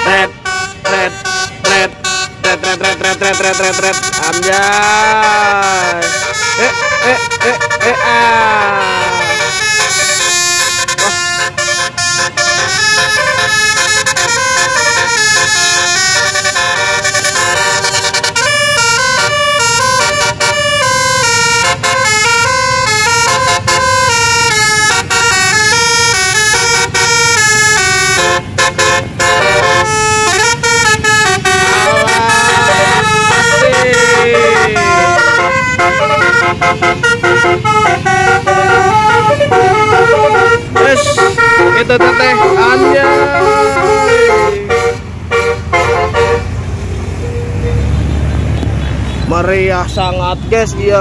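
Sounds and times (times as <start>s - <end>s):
bus horn playing tune: 0.0s - 48.0s
low hum of engines: 0.0s - 51.0s.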